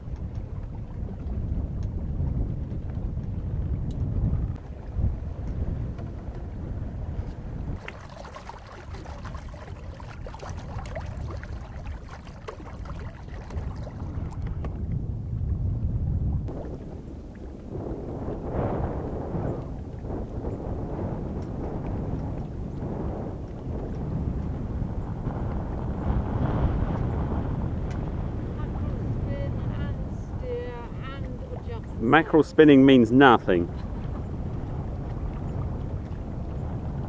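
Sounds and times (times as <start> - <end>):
steady low rumble: 0.0 - 23.5, 24.3 - 32.6
water splashing against hull: 0.0 - 37.0
wind buffeting microphone: 0.0 - 37.0.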